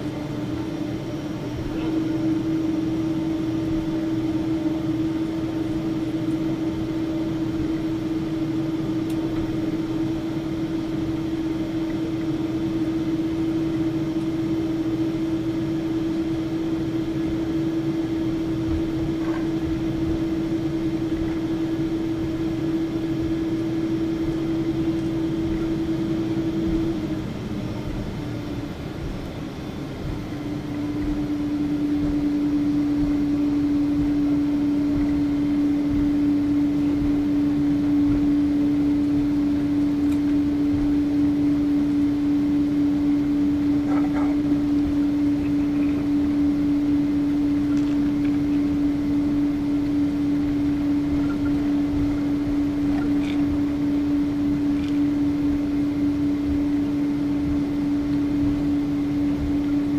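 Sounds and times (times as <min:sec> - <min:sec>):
constant hum tone: 0:00.0 - 0:59.9
jet cabin engine noise: 0:00.0 - 0:59.9.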